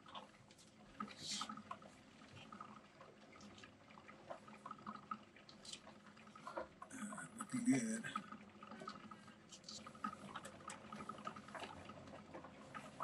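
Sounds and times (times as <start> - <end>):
light clicks and ticks: 0.0 - 13.0.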